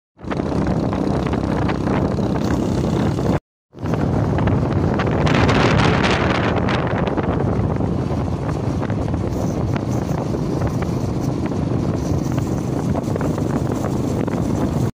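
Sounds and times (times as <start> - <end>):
road noise: 0.2 - 14.9
vehicle engine rumble: 0.2 - 14.9
wind buffeting microphone: 0.2 - 14.9.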